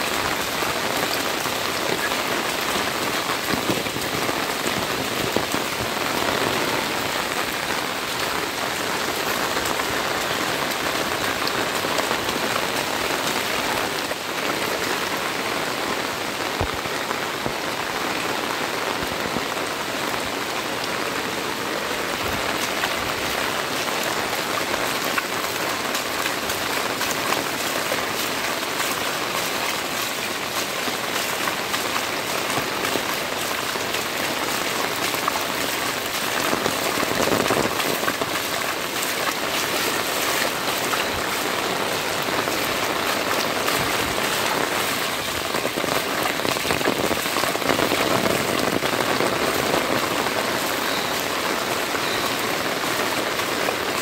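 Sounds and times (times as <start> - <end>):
heavy rain splashing on water: 0.0 - 54.0.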